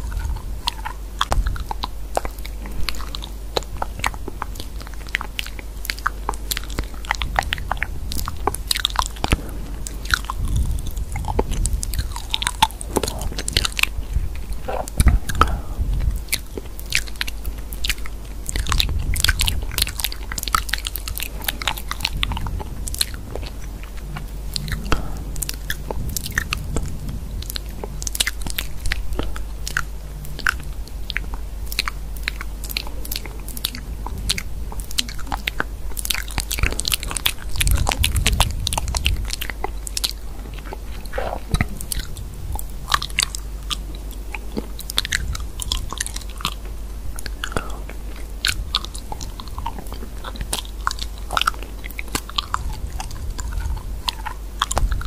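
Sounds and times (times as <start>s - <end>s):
crunching and crackling clicks: 0.0s - 55.0s
steady low hum: 0.0s - 55.0s.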